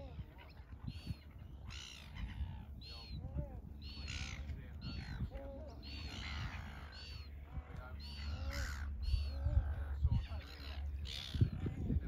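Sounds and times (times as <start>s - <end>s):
gulls calling: 0.0s - 12.0s
steady low rumble: 0.0s - 12.0s.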